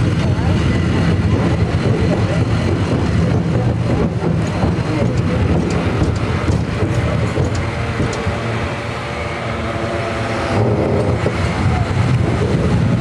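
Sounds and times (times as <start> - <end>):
cable car rumbling on track: 0.0 - 13.0.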